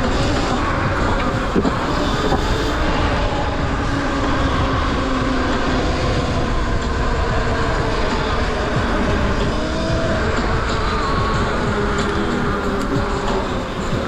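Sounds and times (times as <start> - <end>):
electric motor whine: 0.0 - 14.0
tyre noise: 0.0 - 14.0
wind rumble on microphone: 0.0 - 14.0.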